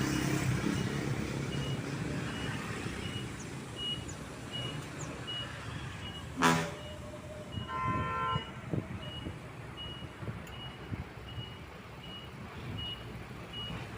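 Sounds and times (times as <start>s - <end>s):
engine rumble: 0.0s - 7.8s, 8.4s - 13.9s
truck reversing alarm beeping: 0.0s - 13.9s.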